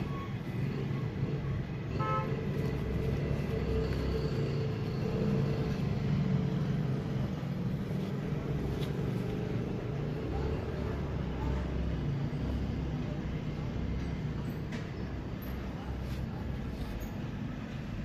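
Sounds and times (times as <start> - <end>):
road traffic rumble: 0.0 - 18.0
vehicle engine running: 0.0 - 18.0.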